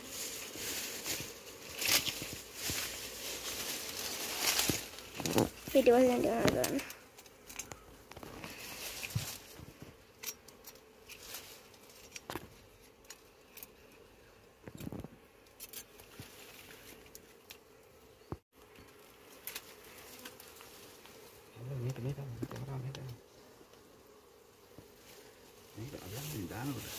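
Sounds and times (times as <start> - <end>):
honeybees humming: 0.0 - 26.9.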